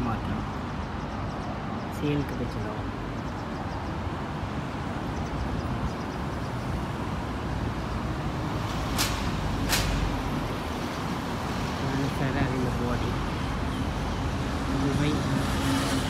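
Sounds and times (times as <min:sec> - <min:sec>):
city background rumble: 0:00.0 - 0:16.0.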